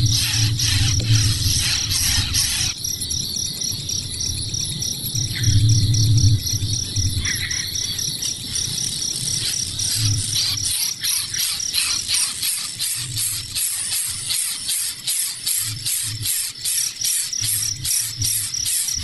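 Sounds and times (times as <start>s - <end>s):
insects chirping in rapid trill: 0.0s - 19.0s.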